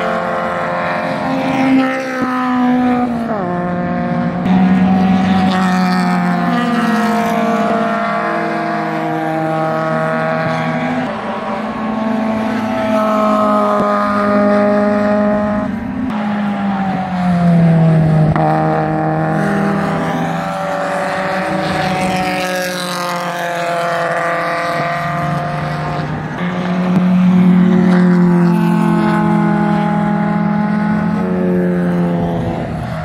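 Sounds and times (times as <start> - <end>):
race cars passing at speed: 0.0 - 33.0.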